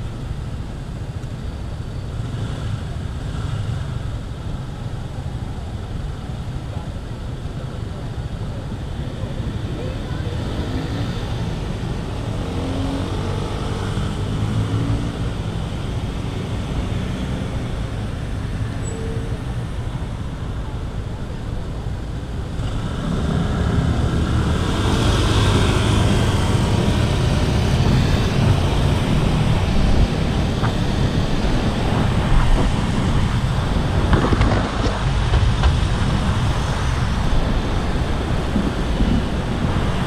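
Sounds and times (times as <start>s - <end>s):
road traffic: 0.0s - 40.0s
wind rumble on microphone: 0.0s - 40.0s.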